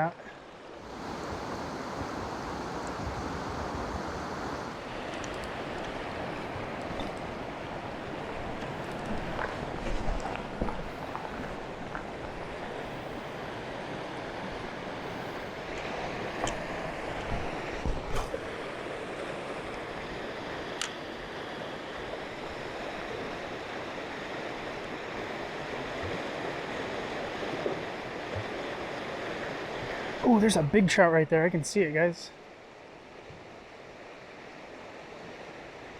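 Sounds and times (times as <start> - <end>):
river water flowing: 0.0 - 35.9.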